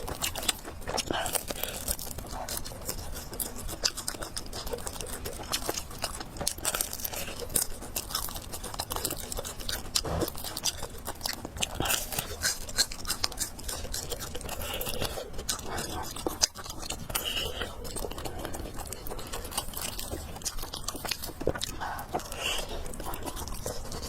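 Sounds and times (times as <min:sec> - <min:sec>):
person chewing noodles: 0:00.0 - 0:24.0
wet mouth clicks and crunches: 0:00.0 - 0:24.0.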